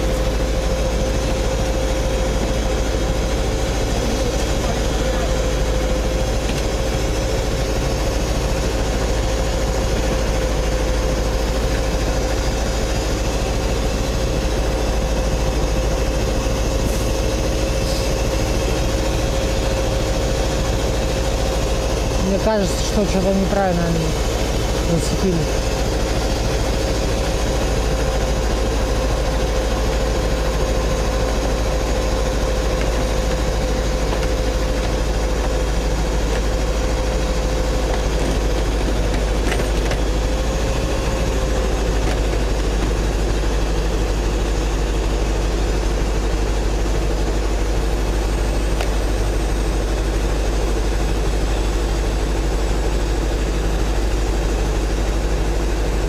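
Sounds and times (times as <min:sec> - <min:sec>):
diesel truck engine running: 0:00.0 - 0:56.0
steady whine: 0:00.0 - 0:56.0.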